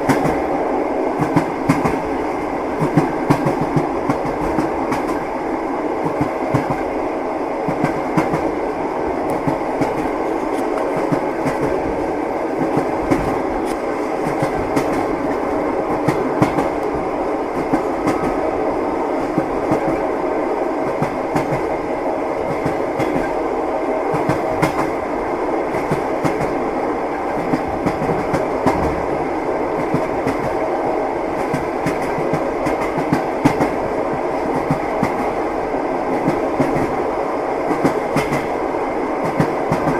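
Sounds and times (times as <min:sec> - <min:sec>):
train wheels clickety-clack: 0:00.0 - 0:05.4, 0:06.0 - 0:07.0, 0:07.6 - 0:08.6, 0:09.2 - 0:18.5, 0:19.1 - 0:20.2, 0:20.8 - 0:21.8, 0:22.4 - 0:23.4, 0:24.0 - 0:37.0, 0:37.6 - 0:38.6, 0:39.2 - 0:39.9
railway carriage rumble: 0:00.0 - 0:39.9.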